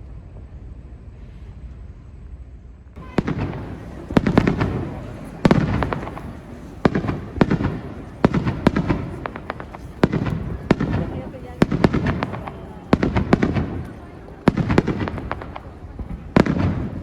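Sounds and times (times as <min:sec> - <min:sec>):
fireworks bangs: 0:03.0 - 0:17.0.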